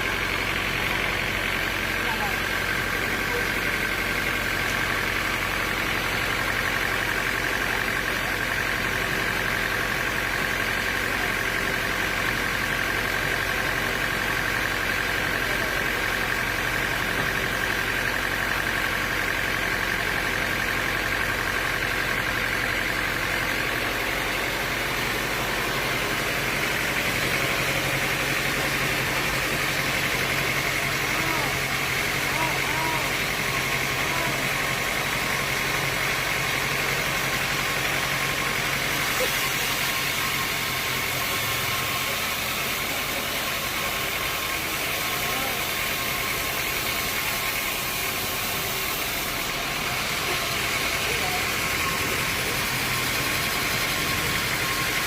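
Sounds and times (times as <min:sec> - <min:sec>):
high machine whine: 0:00.0 - 0:55.0
sawmill machinery hum: 0:00.0 - 0:55.0.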